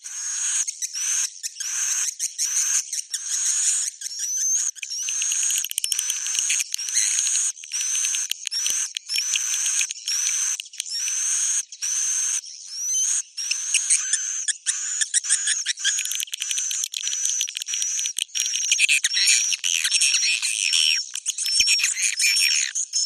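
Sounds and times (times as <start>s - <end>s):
swiftlet chirps and twittering: 0.0s - 23.0s.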